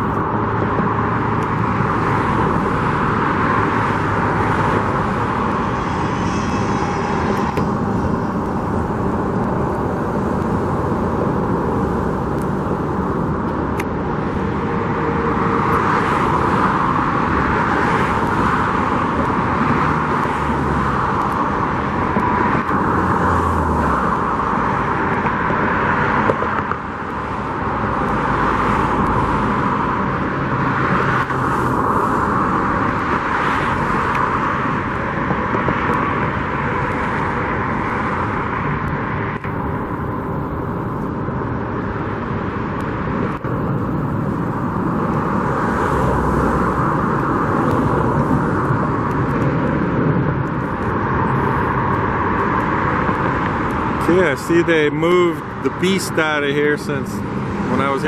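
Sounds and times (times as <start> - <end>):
cars passing: 0.0 - 58.0.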